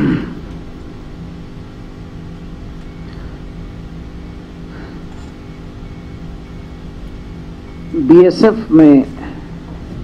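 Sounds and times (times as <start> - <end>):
low rumble: 0.0 - 8.0
steady low hum: 0.0 - 10.0.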